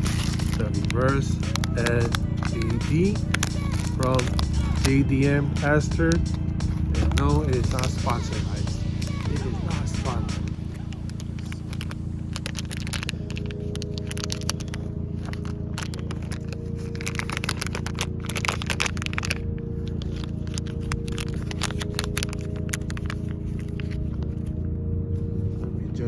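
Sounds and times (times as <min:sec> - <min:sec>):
plastic bag crinkling: 0:00.0 - 0:24.6
low hum: 0:00.0 - 0:26.0.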